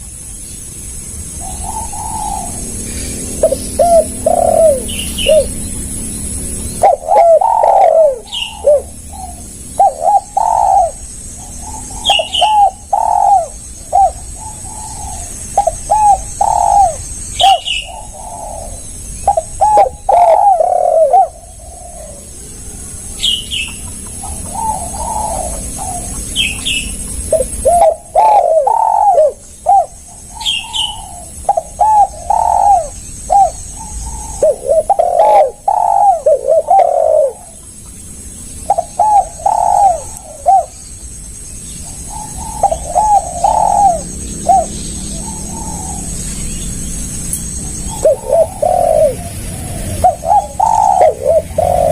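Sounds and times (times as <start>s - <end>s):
steady high whine: 0.0s - 51.9s
doves cooing: 1.3s - 51.9s.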